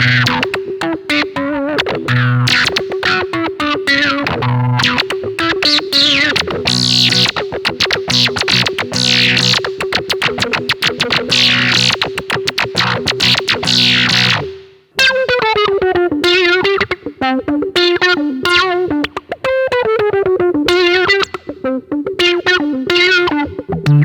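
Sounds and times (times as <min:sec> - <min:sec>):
electric guitar single-note line: 0:00.0 - 0:24.0
electric guitar strummed chords: 0:00.0 - 0:24.0.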